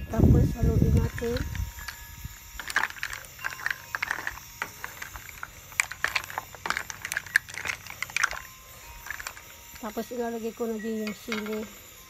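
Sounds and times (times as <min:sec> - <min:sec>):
mussel shells clicking in pot: 0:00.7 - 0:10.0, 0:11.0 - 0:11.8.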